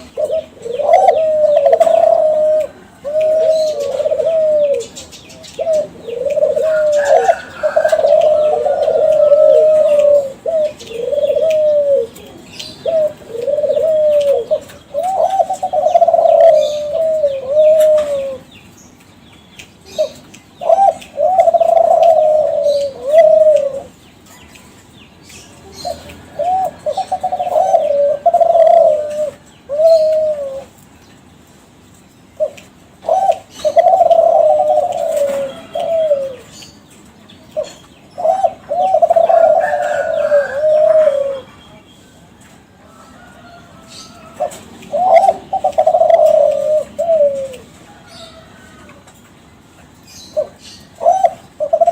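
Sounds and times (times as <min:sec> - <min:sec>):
dove cooing: 0:00.0 - 0:18.5, 0:19.9 - 0:24.0, 0:25.6 - 0:30.8, 0:32.4 - 0:36.7, 0:37.5 - 0:41.6, 0:43.0 - 0:49.1, 0:50.1 - 0:51.9.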